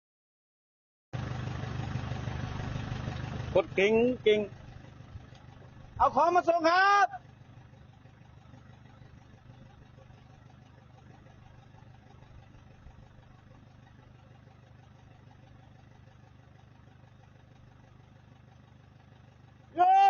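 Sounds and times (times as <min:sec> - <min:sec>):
faint engine idling: 0:01.2 - 0:20.0.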